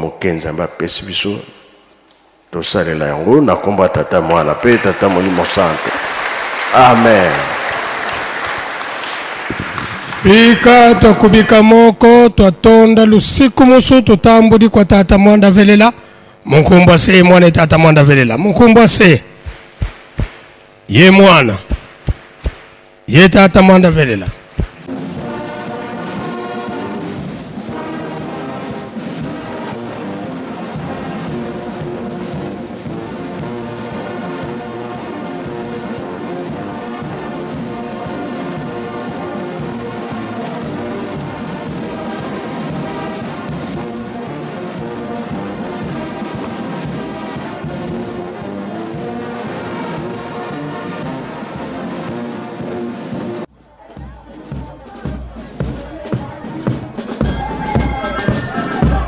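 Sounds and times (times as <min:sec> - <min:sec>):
brass band playing held chords: 0:03.3 - 0:14.6, 0:16.8 - 0:59.0.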